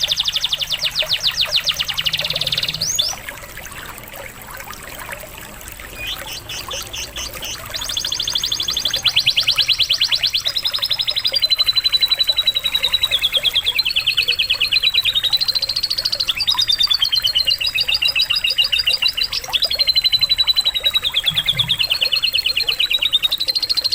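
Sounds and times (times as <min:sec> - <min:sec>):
canary singing trills: 0:00.0 - 0:03.9, 0:05.9 - 0:23.9.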